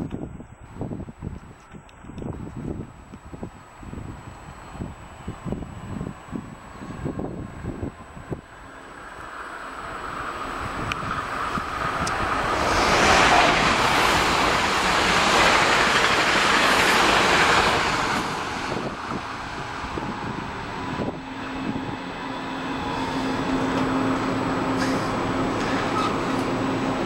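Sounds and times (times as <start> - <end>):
train wheels rushing on rail: 1.5 - 27.0.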